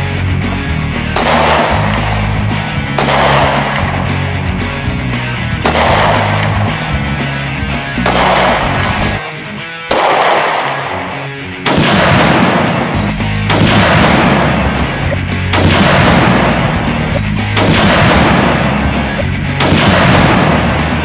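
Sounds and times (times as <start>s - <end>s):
background music: 0.0s - 21.0s
gunshots echoing: 1.0s - 21.0s.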